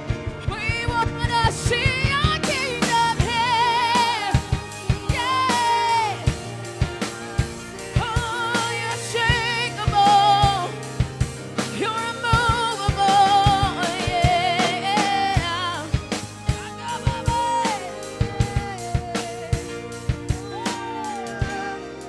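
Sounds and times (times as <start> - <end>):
drum kit hits: 0.0 - 22.0
steady bass line: 0.0 - 22.0
person singing with vibrato: 0.3 - 22.0.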